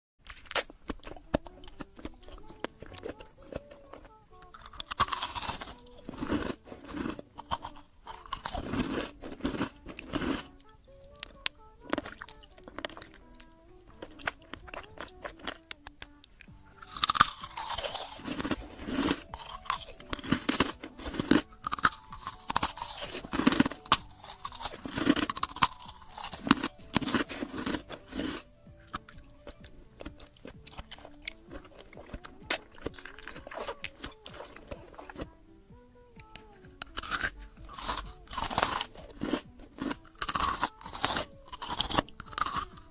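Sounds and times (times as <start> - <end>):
crunchy eating and chewing: 0.2 - 42.9.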